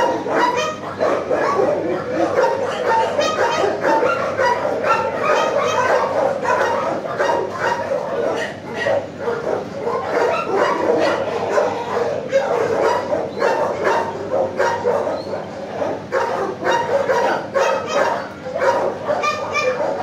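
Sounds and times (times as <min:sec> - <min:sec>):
dogs barking: 0:00.0 - 0:20.0.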